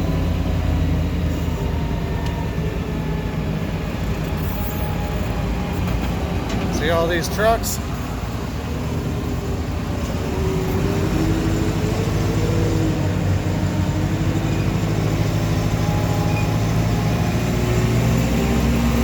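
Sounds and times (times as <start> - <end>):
forklift engine running: 0.0 - 19.0.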